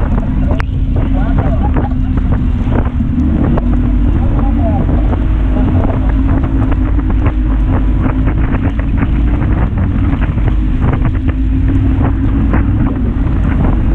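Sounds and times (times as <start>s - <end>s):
motorboat engine humming: 0.0s - 13.9s
wind buffeting on microphone: 0.0s - 13.9s.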